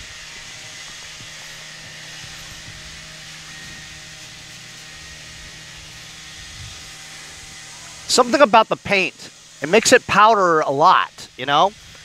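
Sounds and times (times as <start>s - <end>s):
even hiss: 0.0s - 12.0s.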